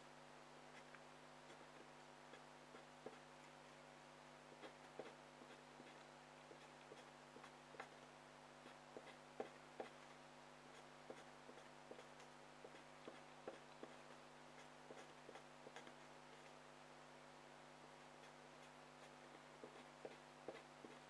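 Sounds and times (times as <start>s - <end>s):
steady low hum: 0.0s - 21.0s
pencil scratching on paper: 0.7s - 3.4s, 4.5s - 16.6s, 18.0s - 21.0s.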